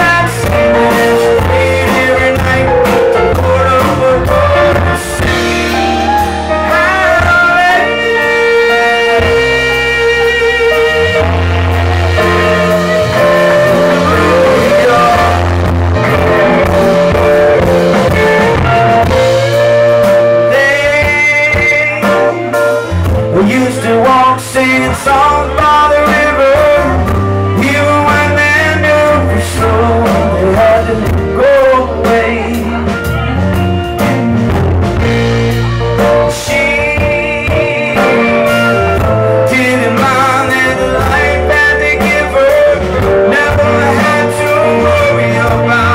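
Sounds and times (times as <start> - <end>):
male lead vocal: 0.0 - 34.2, 34.9 - 45.9
acoustic guitar: 0.0 - 45.9
bass guitar: 0.0 - 45.9
drums: 0.0 - 45.9
electric guitar: 0.0 - 45.9
keyboard: 0.0 - 45.9.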